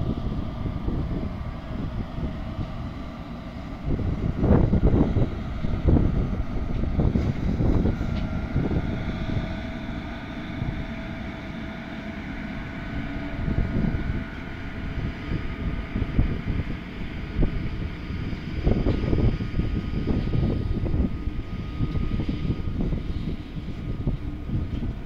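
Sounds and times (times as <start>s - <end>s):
faint steady whine: 0.0s - 25.0s
freight train rumbling: 0.0s - 25.0s
wind buffeting microphone: 0.0s - 25.0s.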